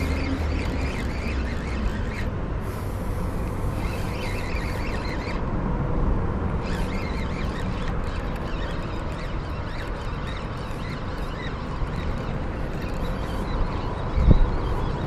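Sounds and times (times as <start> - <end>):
fishing reel cranking: 0.0 - 5.6, 6.5 - 15.0.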